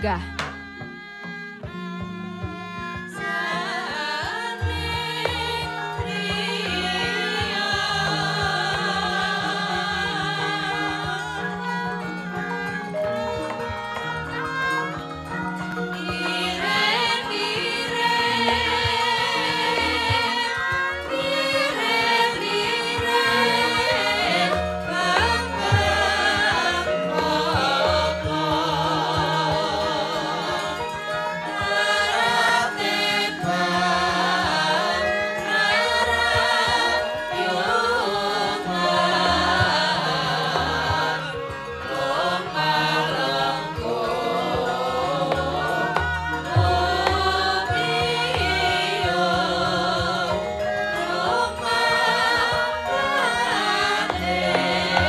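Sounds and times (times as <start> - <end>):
gamelan accompaniment: 0.0 - 55.0
women singing together: 3.0 - 55.0.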